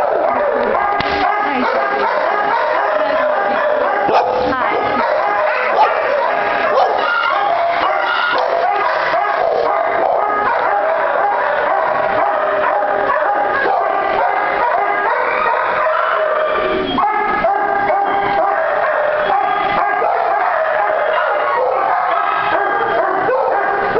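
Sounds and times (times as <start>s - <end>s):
dogs barking and howling: 0.0s - 23.9s.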